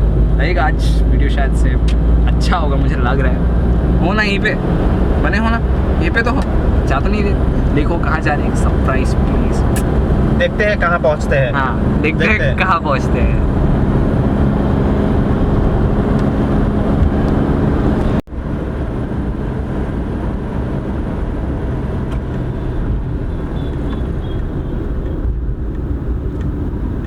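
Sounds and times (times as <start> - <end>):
road rumble: 0.0 - 27.0
vehicle engine hum: 0.0 - 27.0.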